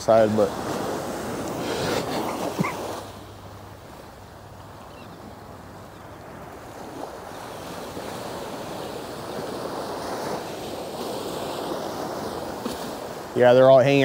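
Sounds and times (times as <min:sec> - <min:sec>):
small waves breaking on beach: 0:00.0 - 0:14.0.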